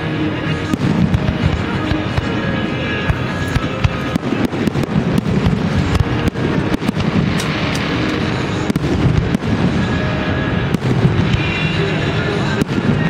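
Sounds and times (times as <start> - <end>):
dense rumble: 0.0 - 13.0
fireworks bursting: 0.0 - 13.0.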